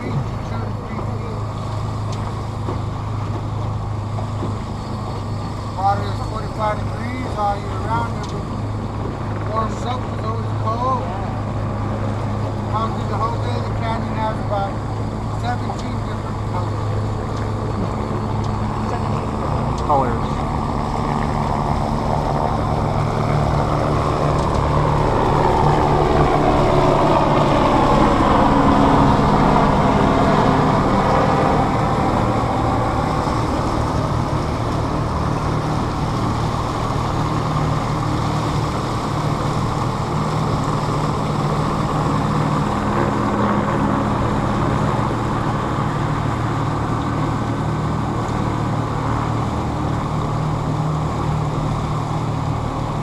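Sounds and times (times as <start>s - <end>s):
motorboat engine droning: 0.0s - 53.0s.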